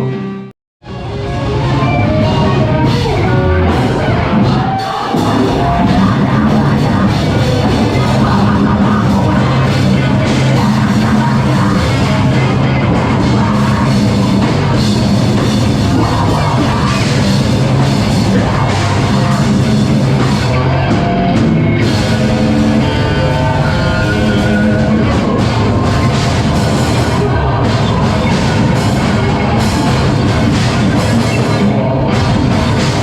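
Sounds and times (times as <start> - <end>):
live heavy rock band: 0.0 - 33.0
pounding drum kit: 0.8 - 33.0
person singing: 1.3 - 33.0.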